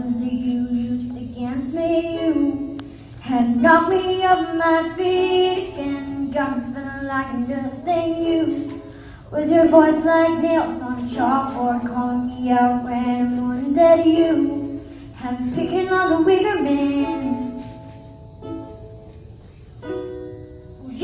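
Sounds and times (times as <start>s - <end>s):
girl singing: 0.0s - 17.9s, 20.8s - 21.0s
ukulele playing: 0.0s - 21.0s.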